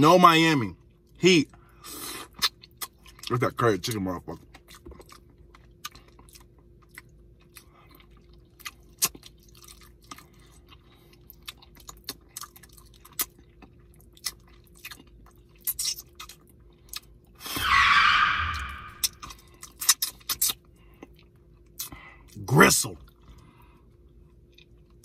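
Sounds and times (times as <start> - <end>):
faint steady hum: 0.0 - 25.0
man chewing food: 0.8 - 3.4, 4.4 - 17.6, 19.0 - 22.4, 23.0 - 25.0.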